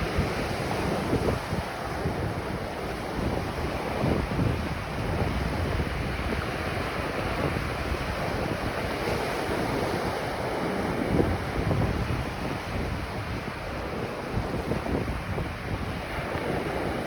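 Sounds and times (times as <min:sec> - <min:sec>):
ocean surf on beach: 0:00.0 - 0:17.0
wind buffeting microphone: 0:00.0 - 0:17.0.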